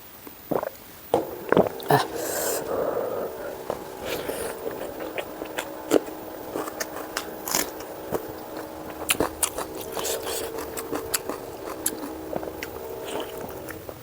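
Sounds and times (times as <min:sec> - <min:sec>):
wet chewing: 0:00.2 - 0:14.0.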